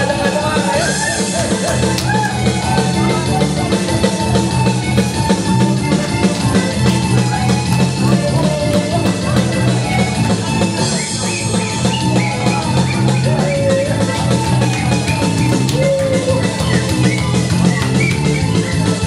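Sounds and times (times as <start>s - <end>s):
loud dance music: 0.0s - 19.0s
drum kit steady beat: 1.3s - 10.8s, 13.0s - 19.0s.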